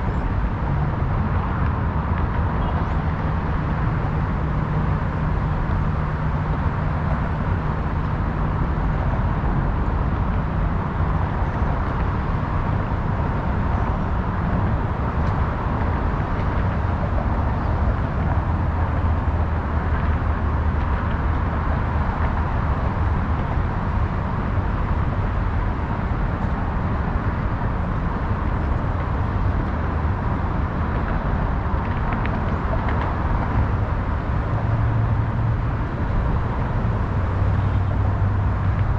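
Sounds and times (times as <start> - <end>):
low engine hum: 0.0 - 38.9
passing cars: 0.0 - 38.9.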